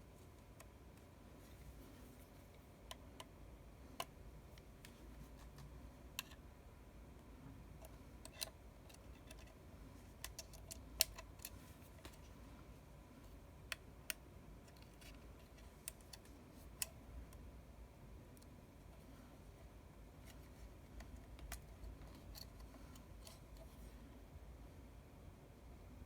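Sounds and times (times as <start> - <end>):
faint steady background noise: 0.0 - 26.0.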